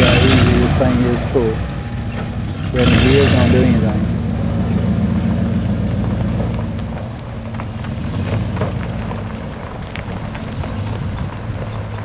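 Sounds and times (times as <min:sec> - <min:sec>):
four-wheeler engine running: 0:00.0 - 0:12.0.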